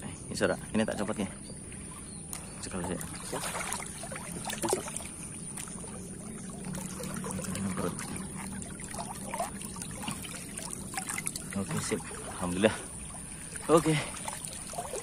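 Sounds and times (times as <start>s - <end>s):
stream water sloshing and splashing: 0.0s - 15.0s.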